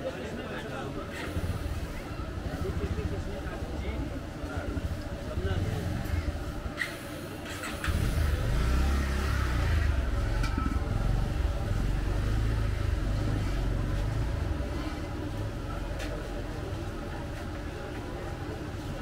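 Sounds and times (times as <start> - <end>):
low engine-like rumble: 1.2 - 19.0.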